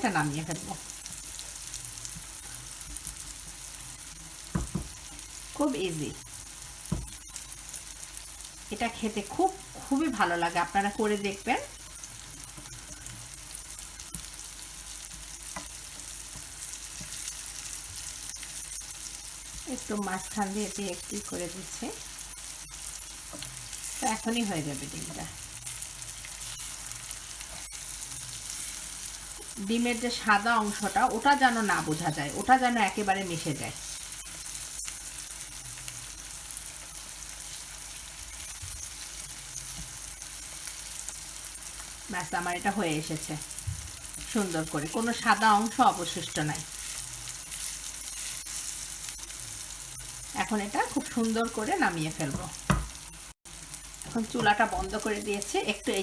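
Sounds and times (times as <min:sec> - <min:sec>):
eggs sizzling in oil: 0:00.0 - 0:56.0.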